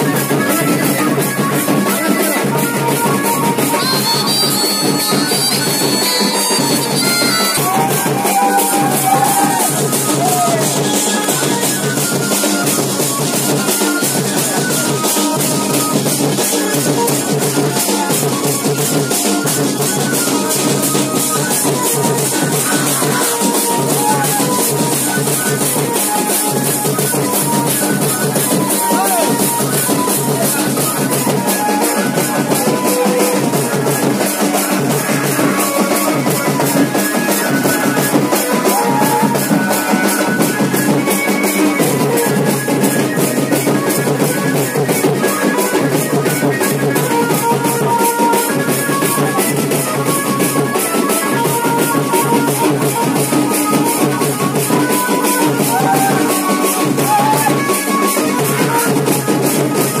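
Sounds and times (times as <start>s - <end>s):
dance music with drum beat: 0.0s - 60.0s.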